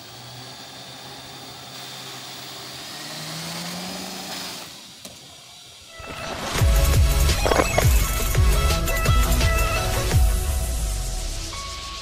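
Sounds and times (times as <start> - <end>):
rotors whirring: 0.0 - 10.1
electric motor whining: 0.0 - 10.4.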